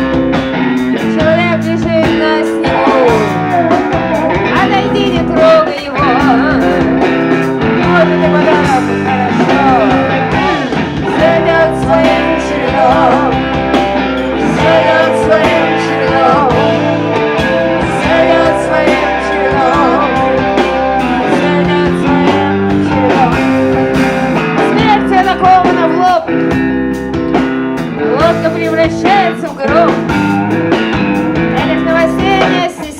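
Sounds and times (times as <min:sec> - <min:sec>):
live rock band playing: 0:00.0 - 0:32.9
person singing: 0:00.9 - 0:26.4, 0:28.0 - 0:30.3, 0:31.4 - 0:32.9.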